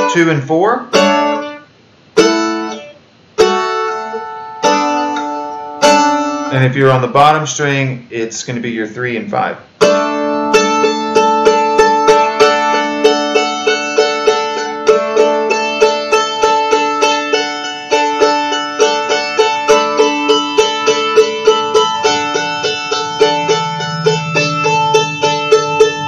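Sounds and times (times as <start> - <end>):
mandolin picking chords: 0.0 - 7.9, 9.3 - 26.0.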